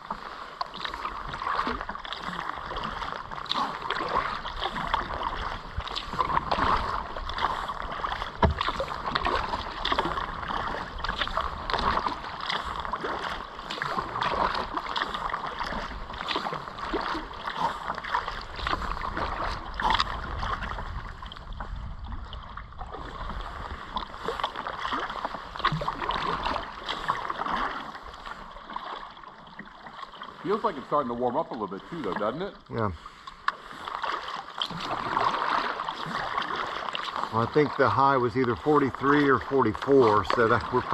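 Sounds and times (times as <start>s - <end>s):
paddles splashing in water: 0.0s - 40.9s
rushing water: 0.0s - 40.9s.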